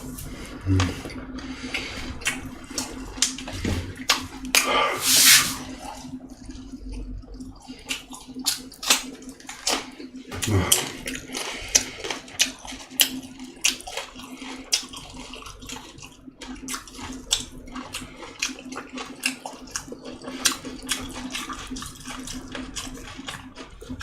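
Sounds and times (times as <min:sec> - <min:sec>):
wet chewing and smacking: 0:00.1 - 0:04.8, 0:05.7 - 0:24.0.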